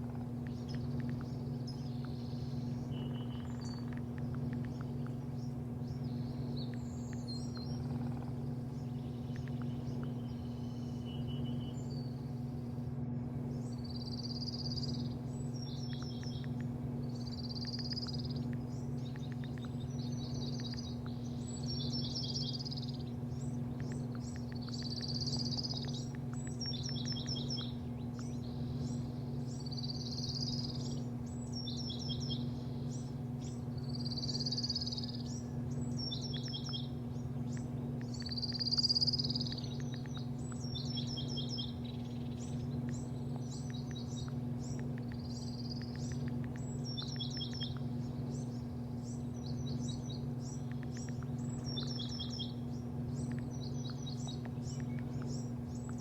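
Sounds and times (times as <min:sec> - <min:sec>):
low machine hum: 0:00.0 - 0:56.0
bird singing a high phrase: 0:00.4 - 0:12.7, 0:13.5 - 0:56.0.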